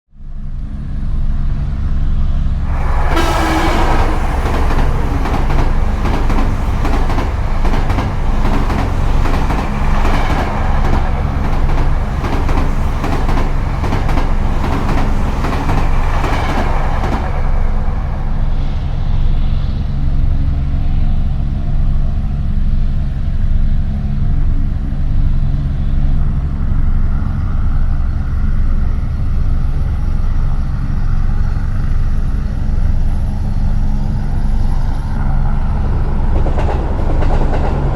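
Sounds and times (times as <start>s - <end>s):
heavy vehicle rumble: 1.0s - 37.9s.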